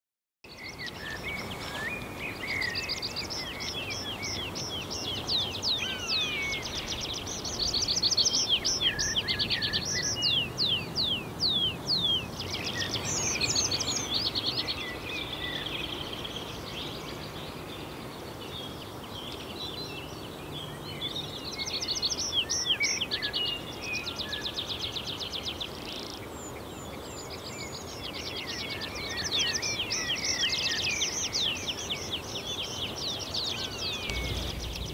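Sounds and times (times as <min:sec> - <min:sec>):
songbirds singing: 0:00.5 - 0:34.9
steady outdoor hiss: 0:00.5 - 0:34.9.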